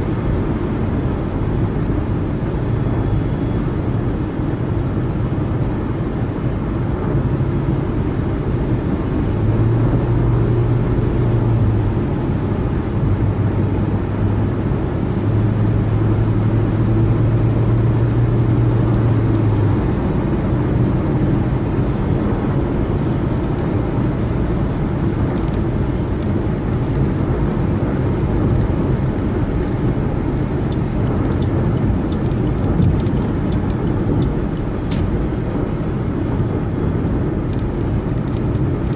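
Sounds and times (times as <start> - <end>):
low engine drone: 0.0 - 38.9
tyre and road noise: 0.0 - 38.9.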